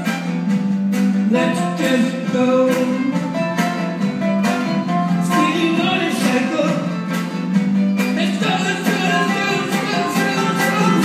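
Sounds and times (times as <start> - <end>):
distant live band playing: 0.0 - 11.0.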